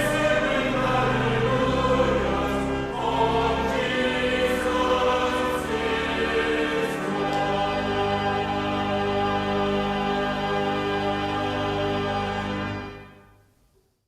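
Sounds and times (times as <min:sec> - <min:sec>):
choir singing a hymn: 0:00.0 - 0:13.2.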